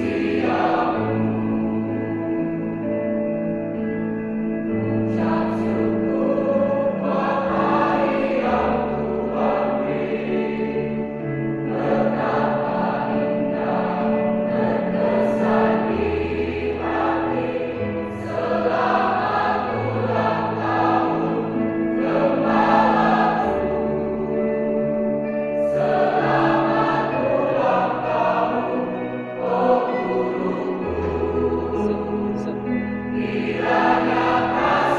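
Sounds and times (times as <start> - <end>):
mixed choir singing: 0.0 - 2.9, 4.7 - 34.9.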